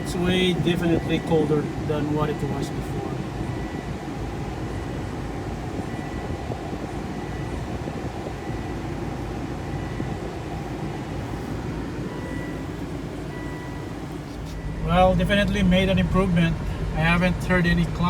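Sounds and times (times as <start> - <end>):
road and engine rumble in car: 0.0 - 18.0.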